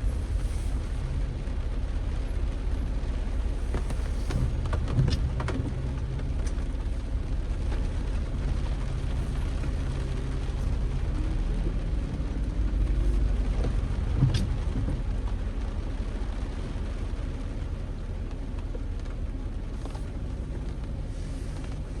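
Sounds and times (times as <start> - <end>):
rain hissing: 0.0 - 22.0
vehicle engine rumbling: 0.0 - 22.0.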